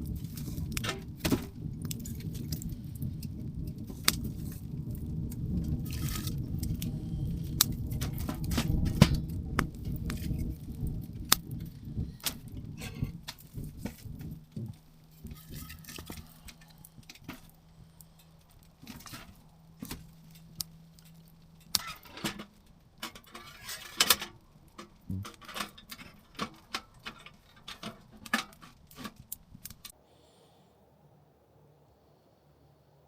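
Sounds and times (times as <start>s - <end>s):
wood stove crackling: 0.0s - 32.0s.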